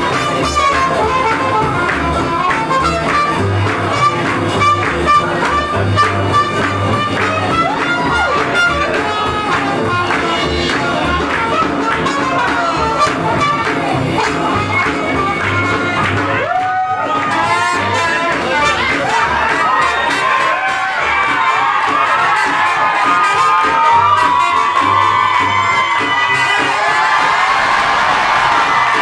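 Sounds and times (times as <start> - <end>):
bass: 0.0 - 29.0
brass and saxophone horn lines: 0.0 - 29.0
drum beat: 0.0 - 29.0.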